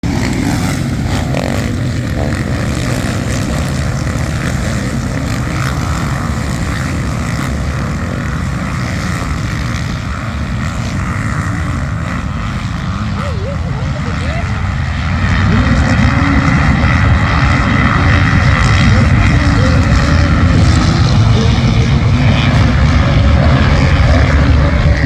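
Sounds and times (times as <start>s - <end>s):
dirt bike engines droning: 0.0s - 25.0s.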